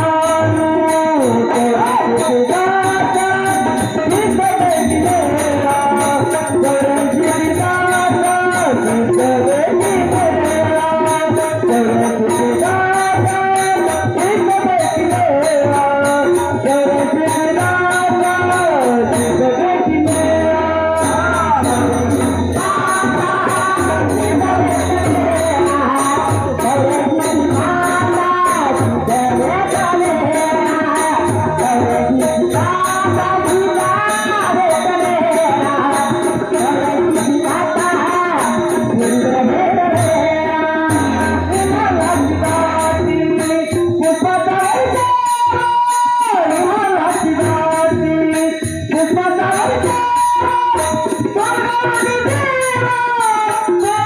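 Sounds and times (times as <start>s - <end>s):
rhythmic percussion: 0.0s - 54.0s
woman singing devotional song: 0.0s - 54.0s.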